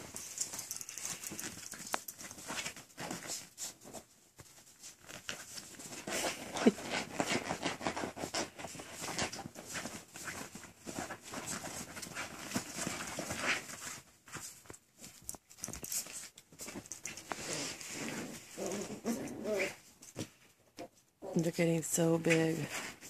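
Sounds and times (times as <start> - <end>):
puppy paws scuffling: 0.0 - 23.0.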